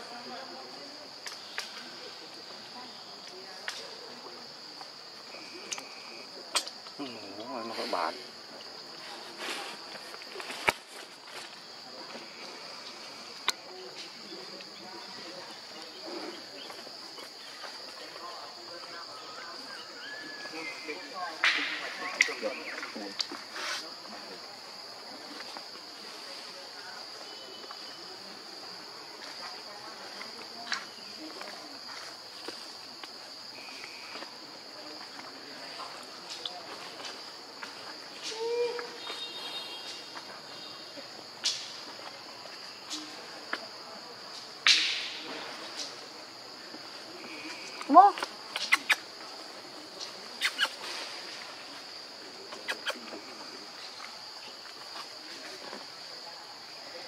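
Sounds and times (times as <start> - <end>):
forest insects droning: 0.0 - 57.0.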